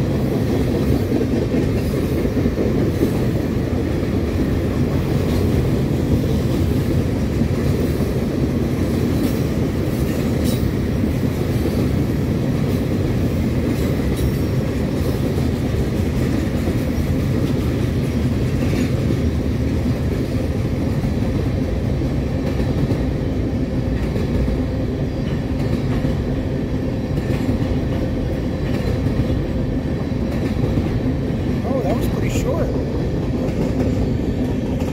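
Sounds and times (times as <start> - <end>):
steel wheels rumbling on rail: 0.0 - 34.9.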